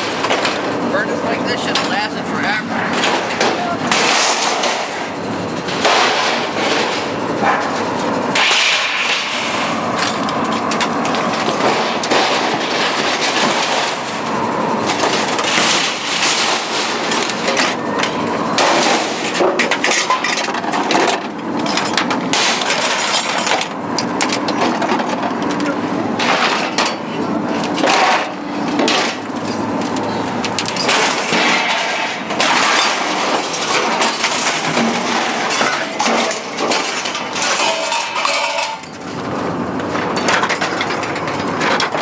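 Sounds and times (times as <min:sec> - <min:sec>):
scrap metal clattering and banging: 0:00.0 - 0:42.0.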